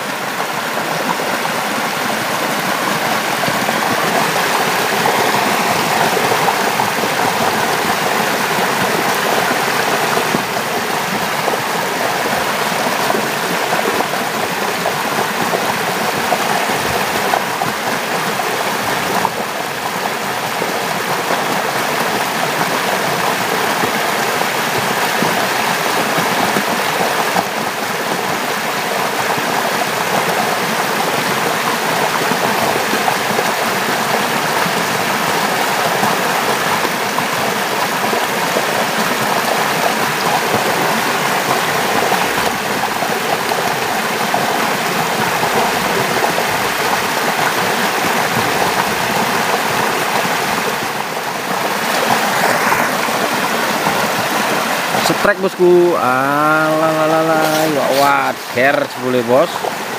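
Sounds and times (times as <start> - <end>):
stream pouring over cascades: 0.0 - 59.9.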